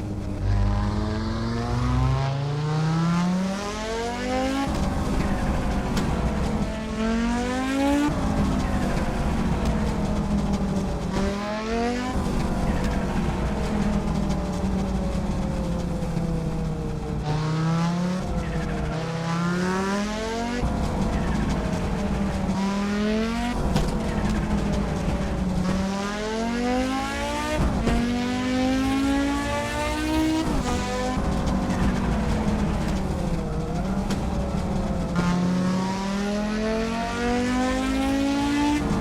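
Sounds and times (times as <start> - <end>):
car engine revving through gears: 0.0 - 39.0.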